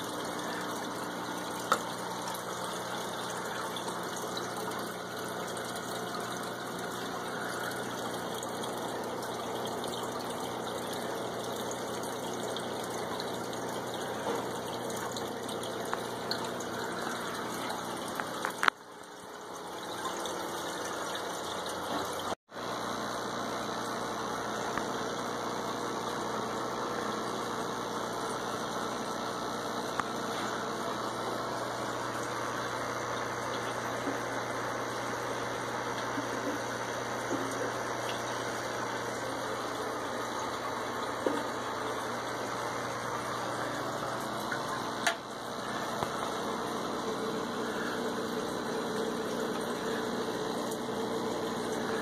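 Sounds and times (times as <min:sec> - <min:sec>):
aquarium filter water rushing: 0:00.0 - 0:52.0
low motor hum: 0:00.0 - 0:52.0.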